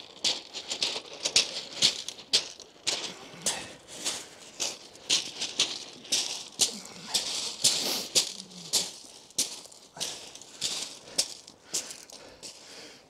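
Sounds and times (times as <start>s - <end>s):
footsteps crunching on shingle: 0.0s - 13.0s.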